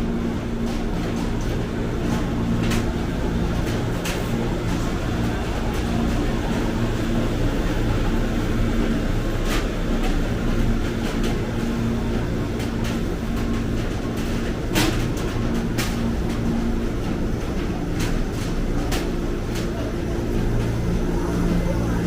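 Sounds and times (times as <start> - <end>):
electric train hum: 0.0 - 22.0.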